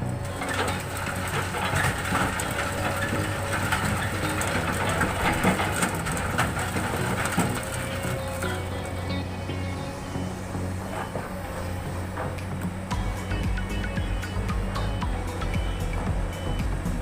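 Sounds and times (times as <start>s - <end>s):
excavator diesel engine running: 0.0s - 17.0s
sand and stones clattering: 0.0s - 17.0s.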